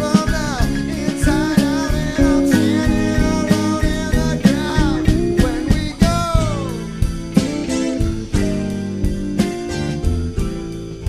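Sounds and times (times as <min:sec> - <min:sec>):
band music with steady beat: 0:00.0 - 0:11.0
lead guitar bending notes: 0:00.0 - 0:11.0.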